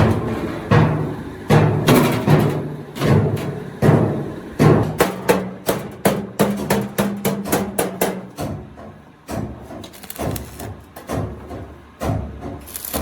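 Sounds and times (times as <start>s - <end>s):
hammer striking sheet steel: 0.0s - 8.6s, 9.3s - 13.0s.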